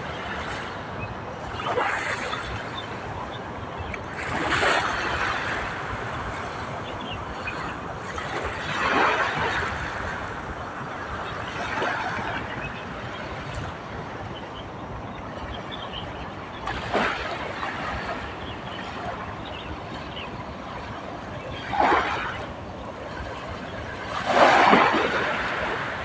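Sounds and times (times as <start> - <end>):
waves lapping against shore: 0.0 - 26.0.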